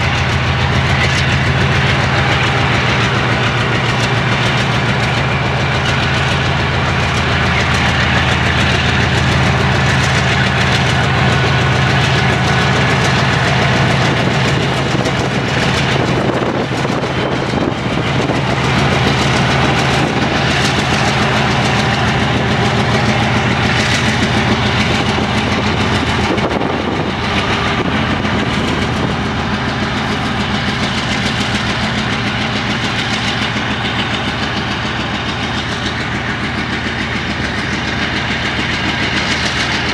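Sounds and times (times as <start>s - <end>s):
diesel locomotive engine drone: 0.0s - 39.9s
freight wagons rumbling: 0.0s - 39.9s.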